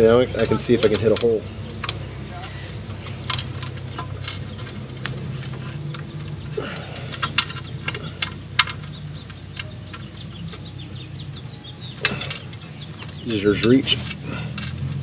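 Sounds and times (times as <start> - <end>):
steady low hum: 0.0 - 15.0
metallic clicks of bolt and washers: 0.4 - 10.7, 12.0 - 15.0.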